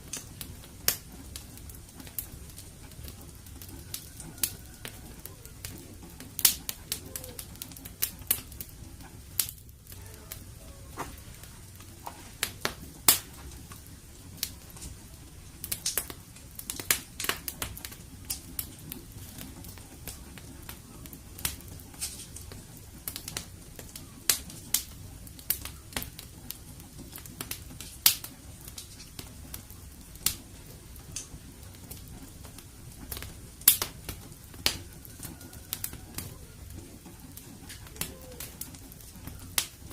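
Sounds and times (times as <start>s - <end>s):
fire low rumble: 0.0s - 39.9s
wood fire crackling and popping: 0.0s - 39.9s.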